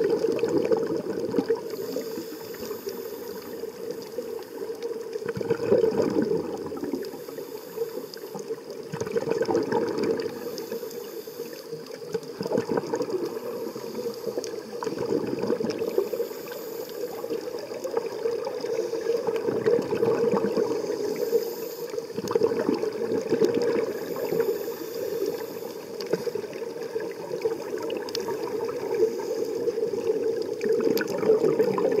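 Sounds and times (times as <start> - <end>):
underwater exhaust bubbles gurgling: 0.0 - 32.0.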